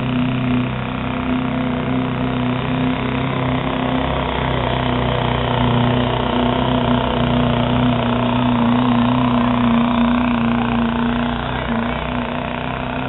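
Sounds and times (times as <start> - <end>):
diesel engine running hard: 0.0 - 13.0.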